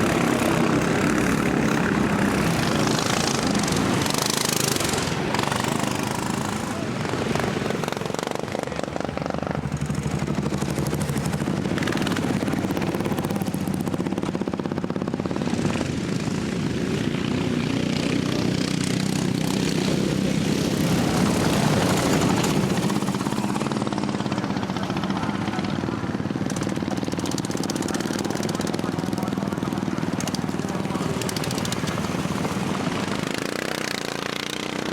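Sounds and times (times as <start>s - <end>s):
racing lawnmower engines buzzing: 0.0s - 34.9s.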